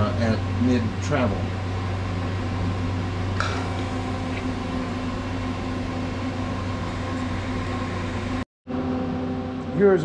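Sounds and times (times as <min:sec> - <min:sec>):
lathe electrical hum: 0:00.0 - 0:10.0.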